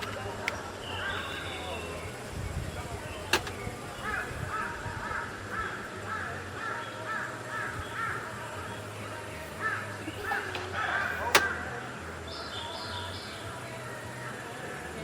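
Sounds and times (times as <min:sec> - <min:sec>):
bird calling: 0:00.0 - 0:14.6.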